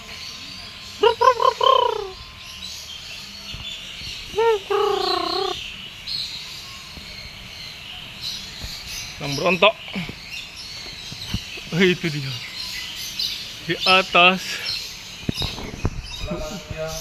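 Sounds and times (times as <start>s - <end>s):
small birds chirping faintly: 0.0s - 17.0s.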